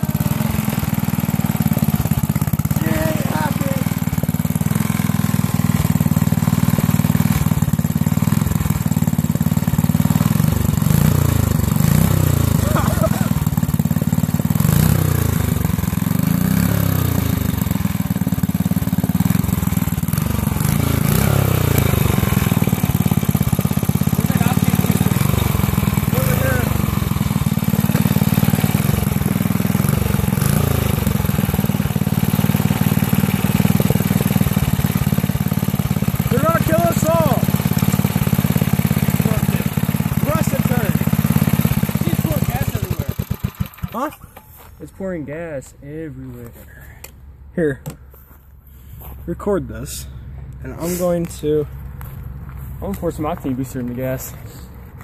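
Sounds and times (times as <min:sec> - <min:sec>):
small engine running: 0:00.0 - 0:44.7.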